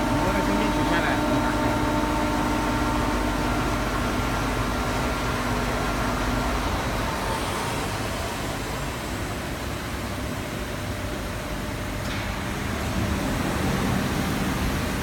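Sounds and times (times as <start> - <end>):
grinding machine hum: 0.0 - 15.0.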